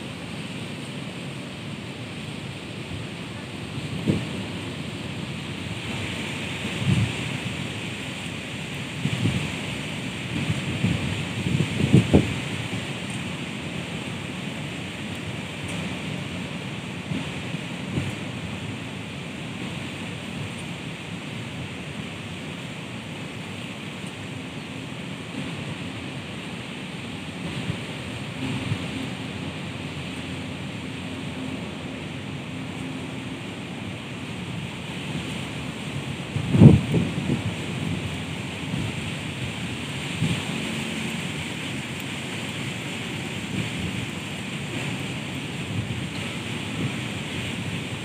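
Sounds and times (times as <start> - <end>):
wind buffeting microphone: 0.0 - 48.0
wind rustling leaves: 0.0 - 48.0.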